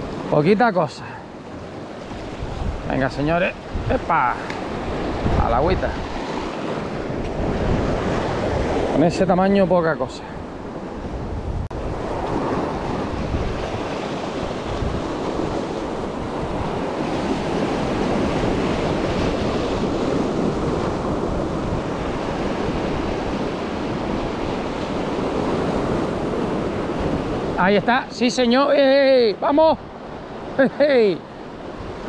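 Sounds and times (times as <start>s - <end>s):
sea surf breaking over rocks: 0.0s - 32.0s
wind buffeting microphone: 1.4s - 30.6s.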